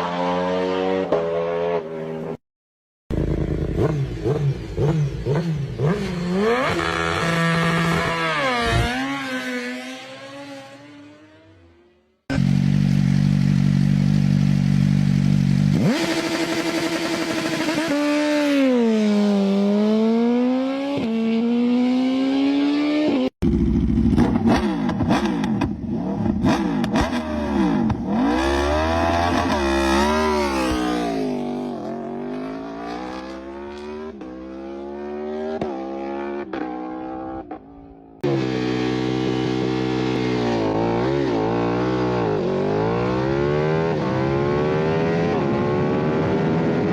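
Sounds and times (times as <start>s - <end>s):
motorcycle engine revving: 3.1s - 46.9s.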